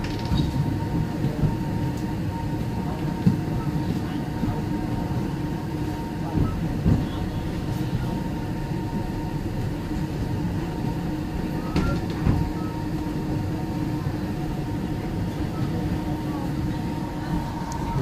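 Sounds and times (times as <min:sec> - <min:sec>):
constant hum: 0:00.0 - 0:18.0
train rumble: 0:00.0 - 0:18.0.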